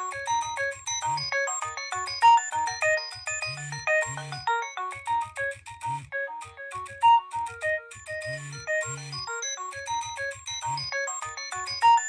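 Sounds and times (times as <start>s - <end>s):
synthesized phone ringtone melody: 0.0s - 12.0s.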